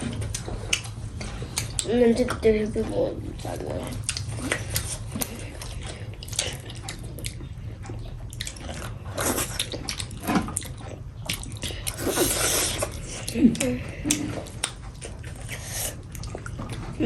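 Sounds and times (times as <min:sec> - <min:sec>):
chewing and wet mouth sounds: 0:00.0 - 0:17.0.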